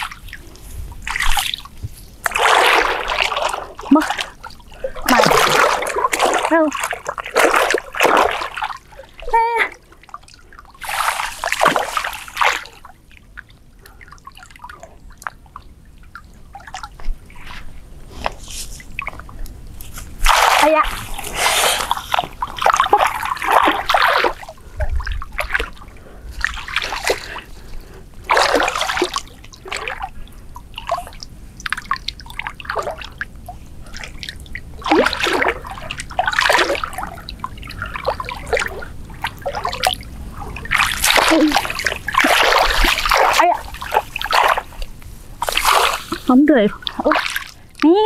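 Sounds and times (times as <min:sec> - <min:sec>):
shallow water splashing: 0:00.0 - 0:48.0.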